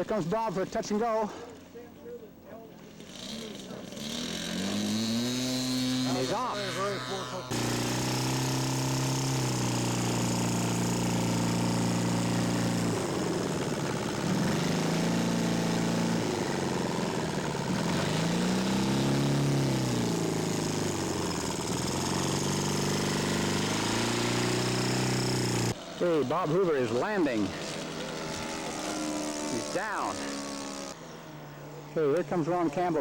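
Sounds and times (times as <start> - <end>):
model airplane engine: 2.8 - 32.9.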